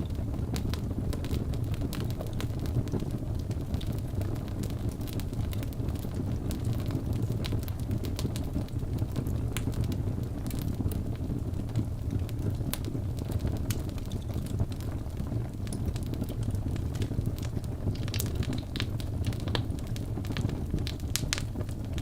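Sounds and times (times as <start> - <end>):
fire crackling and popping: 0.0 - 22.0
fire roaring in fireplace: 0.0 - 22.0.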